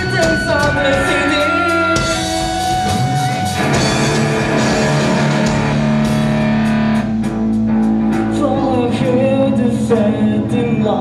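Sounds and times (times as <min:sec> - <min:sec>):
distorted electric guitar chords: 0:00.0 - 0:10.8
bass: 0:00.0 - 0:11.0
drum kit: 0:00.0 - 0:11.0.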